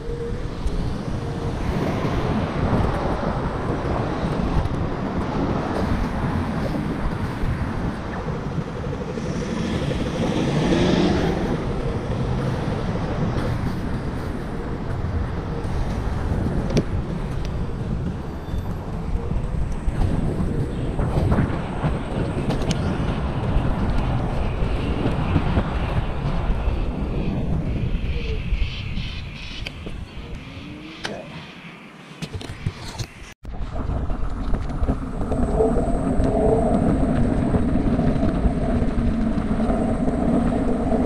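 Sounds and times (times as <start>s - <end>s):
road traffic: 0.0s - 33.4s
wind and road noise: 0.0s - 41.0s.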